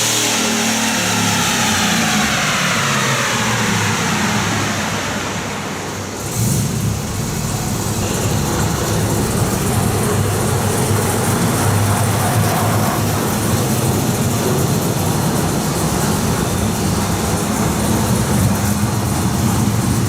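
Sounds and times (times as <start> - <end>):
truck engine running on a dyno: 0.0 - 20.0.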